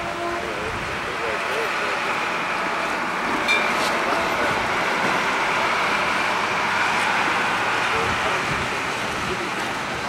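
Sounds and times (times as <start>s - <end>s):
tram running noise: 0.0s - 10.0s.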